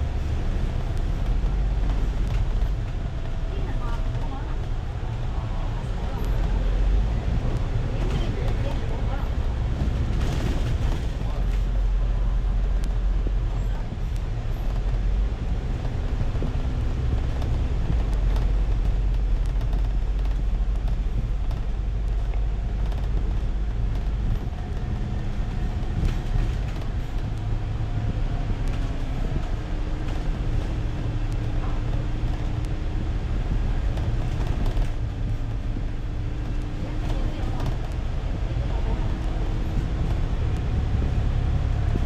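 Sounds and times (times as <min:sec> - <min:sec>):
bus engine and road rumble: 0:00.0 - 0:42.0.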